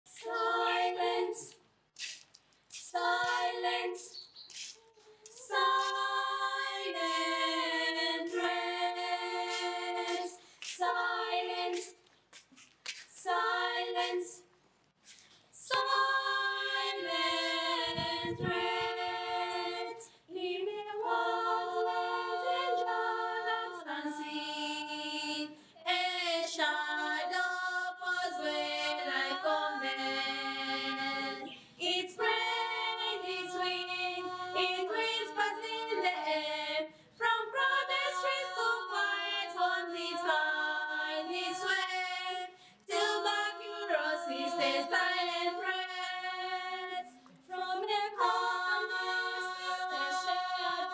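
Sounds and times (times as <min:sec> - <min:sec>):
girls singing a cappella: 0:00.0 - 0:02.1, 0:02.7 - 0:50.9.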